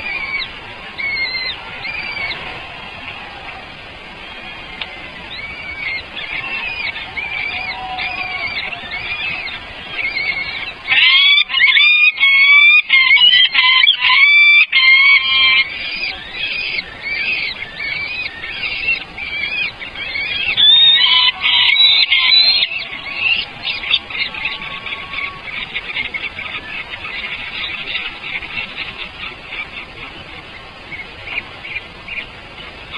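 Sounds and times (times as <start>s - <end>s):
birds calling high-pitched: 0.0s - 32.9s
faint rapid bird chatter: 0.0s - 32.9s.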